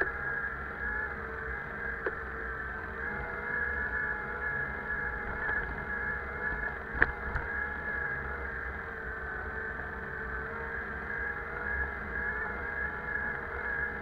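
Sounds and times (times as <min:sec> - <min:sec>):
bicycle whining hum: 0:00.0 - 0:14.0.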